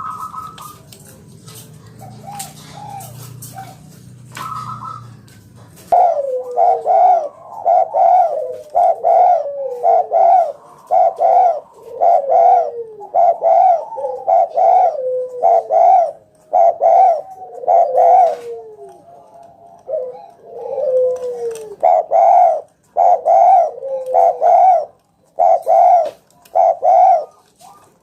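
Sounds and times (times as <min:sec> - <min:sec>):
dove cooing: 0:00.0 - 0:28.0.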